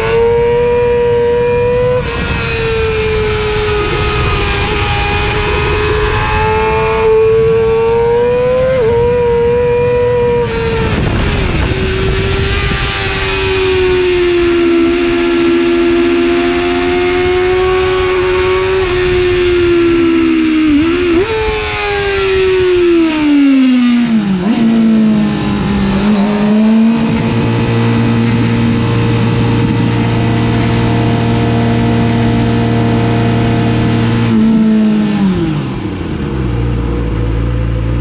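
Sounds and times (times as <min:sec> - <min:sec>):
motorcycle engine screaming: 0:00.0 - 0:36.8
wind noise rushing: 0:01.8 - 0:35.8.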